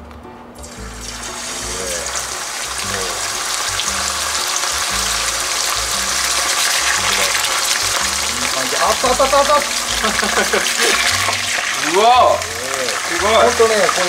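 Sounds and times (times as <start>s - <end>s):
background music: 0.0s - 14.0s
oil sizzling and bubbling: 0.6s - 14.0s.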